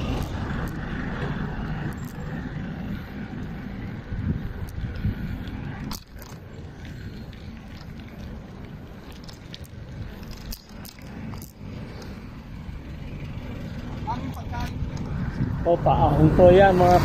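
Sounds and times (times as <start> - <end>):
bicycle road noise on concrete: 0.0 - 17.0
wind rumbling on microphone: 0.0 - 17.0.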